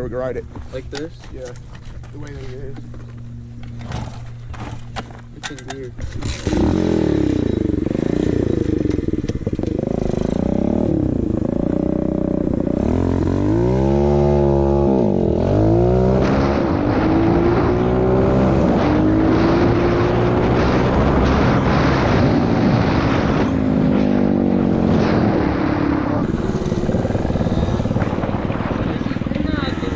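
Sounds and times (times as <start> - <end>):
small motorcycle engine revving: 3.7 - 29.9.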